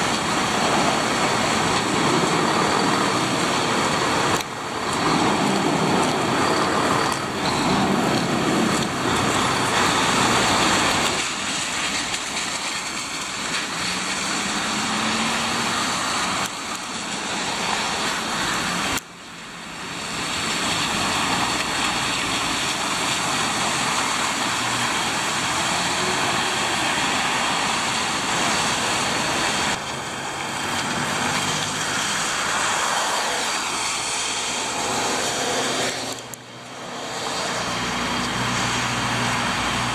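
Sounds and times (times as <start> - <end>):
tyres hissing on wet road: 0.0 - 39.9
vehicles driving past: 0.0 - 39.9.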